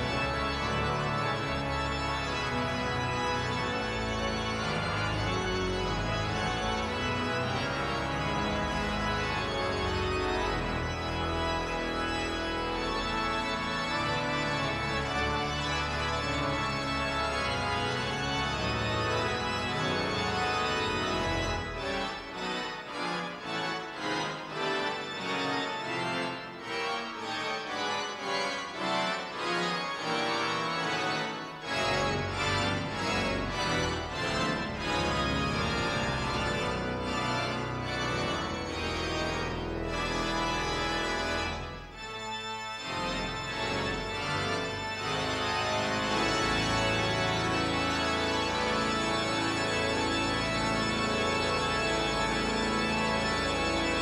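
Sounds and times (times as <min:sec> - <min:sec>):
church pipe organ chords: 0:00.0 - 0:54.0.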